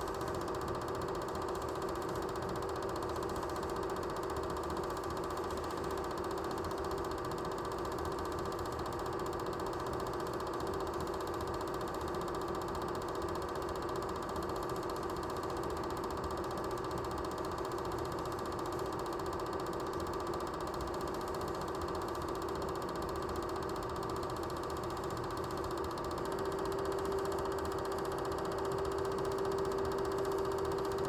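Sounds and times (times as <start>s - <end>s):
film projector clattering: 0.0s - 31.0s
projector hum: 0.0s - 31.0s.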